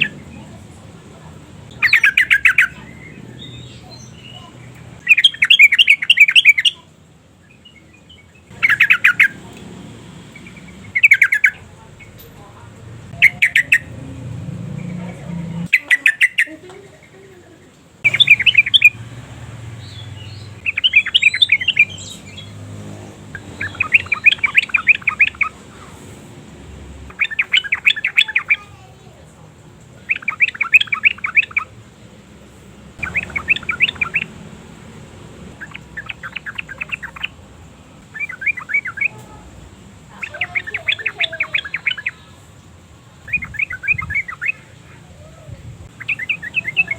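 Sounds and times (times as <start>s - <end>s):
bird singing bubbly phrases: 0.0s - 0.6s, 1.7s - 9.6s, 10.3s - 12.2s, 13.1s - 14.1s, 15.6s - 22.7s, 23.4s - 26.0s, 27.1s - 29.2s, 29.8s - 31.8s, 33.0s - 46.9s.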